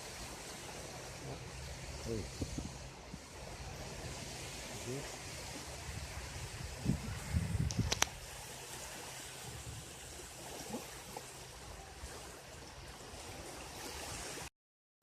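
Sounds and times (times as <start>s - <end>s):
small waves lapping on shore: 0.0s - 14.5s.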